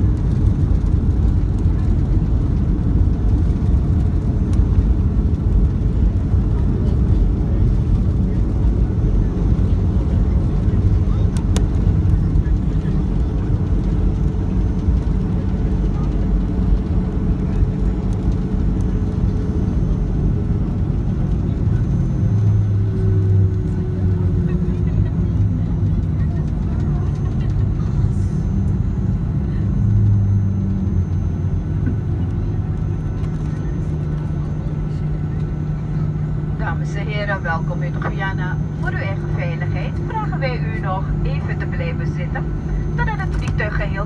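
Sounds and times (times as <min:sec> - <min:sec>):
jet engines rumbling in cabin: 0:00.0 - 0:44.0.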